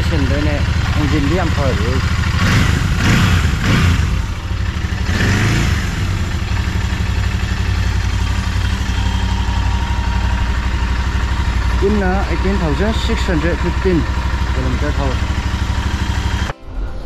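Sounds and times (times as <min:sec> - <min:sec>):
motorcycle engine revving and idling: 0:00.0 - 0:16.5.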